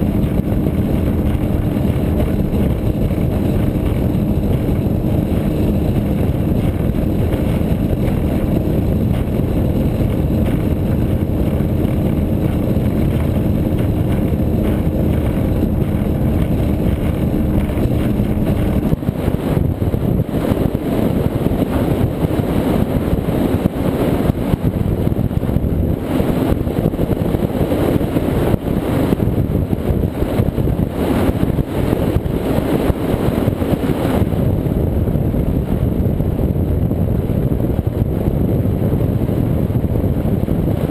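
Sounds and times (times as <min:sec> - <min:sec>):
rushing water: 0:00.0 - 0:34.4
powerboat engine drone: 0:00.0 - 0:40.9
wind: 0:00.0 - 0:40.9.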